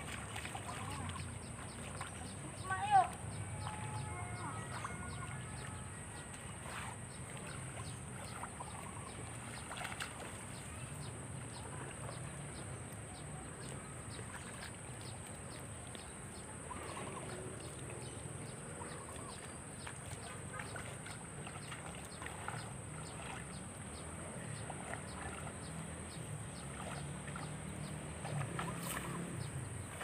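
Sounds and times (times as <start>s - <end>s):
water sloshing and splashing: 0.0s - 30.0s.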